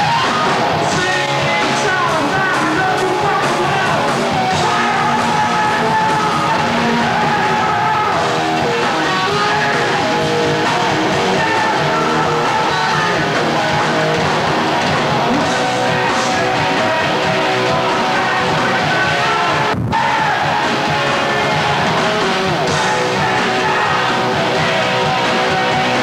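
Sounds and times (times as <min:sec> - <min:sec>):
bass: 0:00.0 - 0:26.0
distorted electric guitar: 0:00.0 - 0:26.0
drums: 0:00.0 - 0:26.0.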